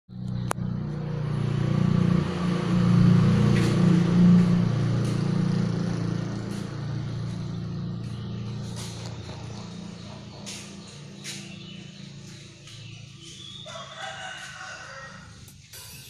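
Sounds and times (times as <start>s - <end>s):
motor engine running: 0.1s - 13.9s.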